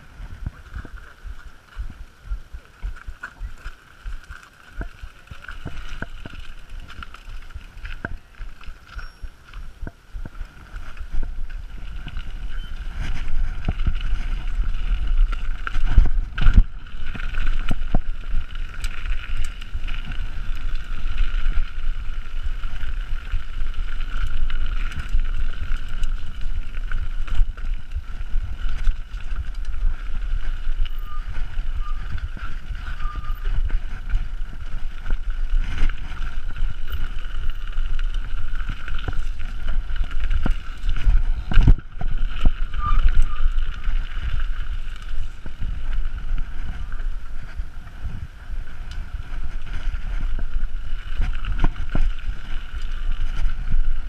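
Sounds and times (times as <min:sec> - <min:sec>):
bike rattling over bumps: 0:00.0 - 0:54.0
wind buffeting microphone: 0:00.0 - 0:54.0.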